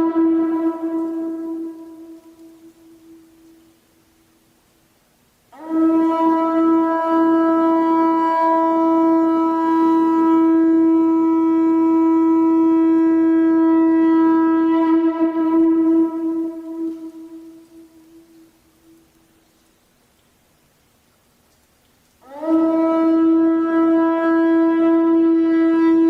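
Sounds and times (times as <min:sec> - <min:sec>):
conch shell trumpet note: 0:00.0 - 0:03.8, 0:05.5 - 0:19.2, 0:22.2 - 0:26.0.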